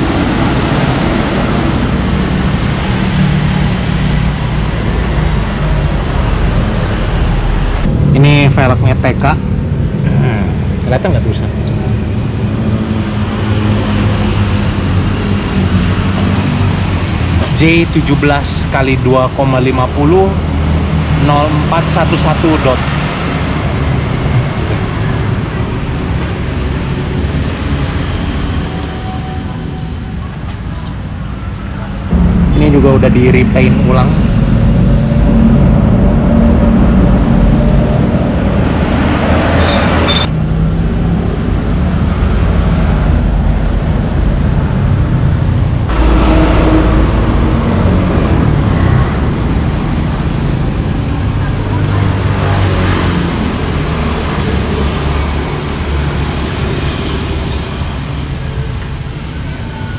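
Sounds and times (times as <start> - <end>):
rushing noise: 0.0 - 59.9
traffic rumbling: 0.0 - 59.9.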